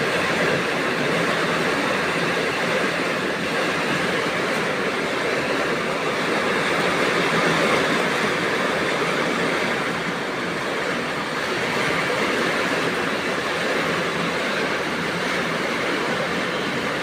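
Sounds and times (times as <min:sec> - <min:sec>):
heavy rain pouring: 0:00.0 - 0:17.0
strong wind: 0:00.0 - 0:17.0.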